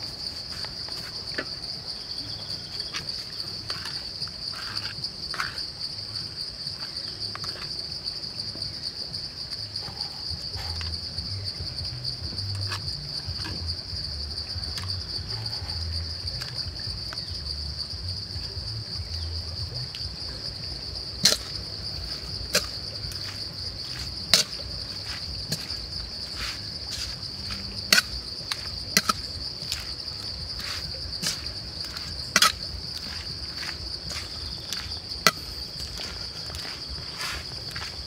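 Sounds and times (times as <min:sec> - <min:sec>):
high-pitched insects chirring: 0:00.0 - 0:38.0.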